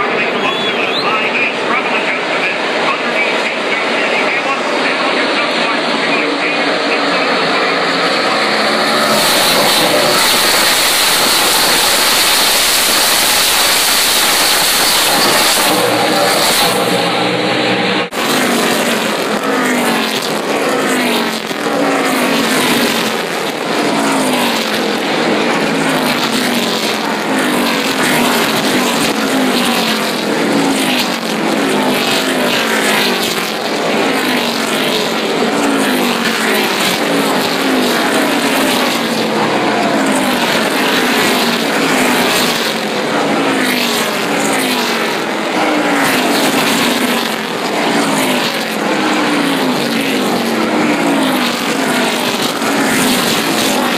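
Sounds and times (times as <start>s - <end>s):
race cars passing at high revs: 0.0s - 53.9s.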